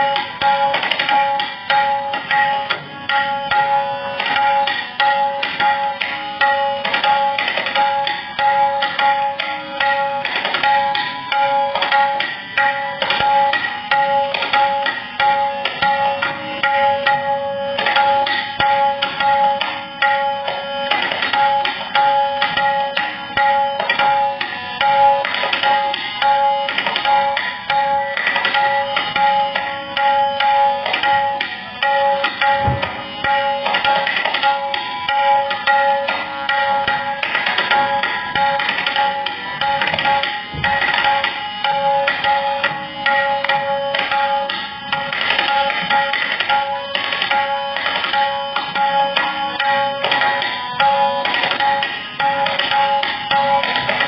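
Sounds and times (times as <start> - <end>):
tabla playing: 0.0 - 54.0.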